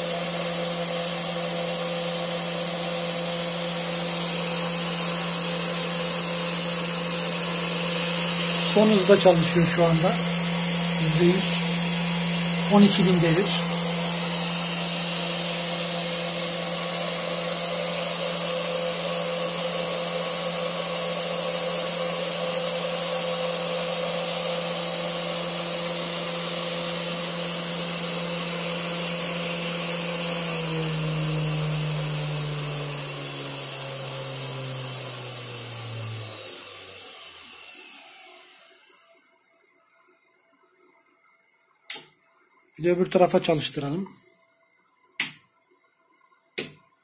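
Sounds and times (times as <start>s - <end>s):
spindle motor humming: 0.0s - 38.7s.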